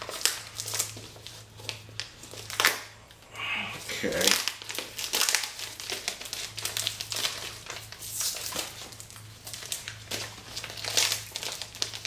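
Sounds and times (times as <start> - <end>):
paper packaging rustling: 0.0 - 3.0, 3.8 - 12.0.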